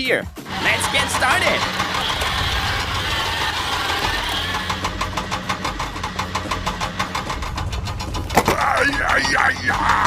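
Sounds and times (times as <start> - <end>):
vehicle engine humming: 0.4 - 10.0
fast rattling pulse: 0.5 - 9.8.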